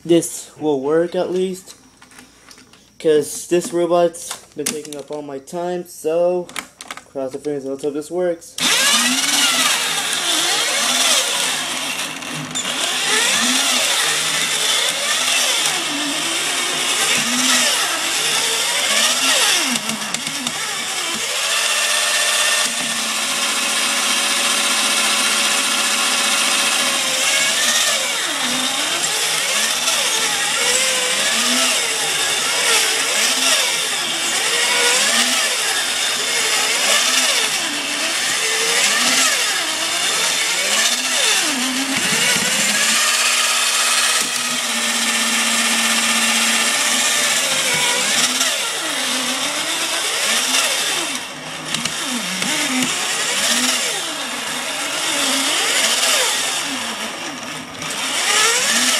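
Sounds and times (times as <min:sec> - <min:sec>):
toy robot motor whirring: 0:08.6 - 0:58.9.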